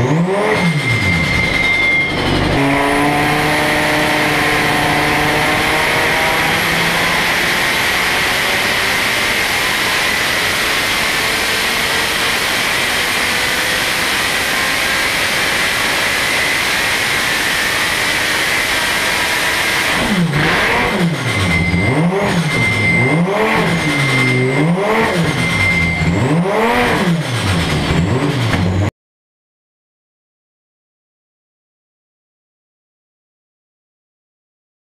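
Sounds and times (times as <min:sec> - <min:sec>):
car engine running on dyno: 0:00.0 - 0:28.9.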